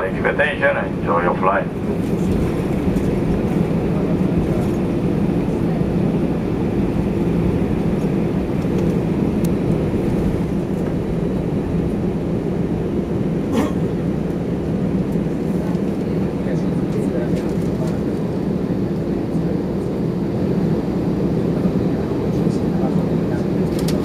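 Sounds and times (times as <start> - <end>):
aircraft engine rumble in cabin: 0.0 - 24.0.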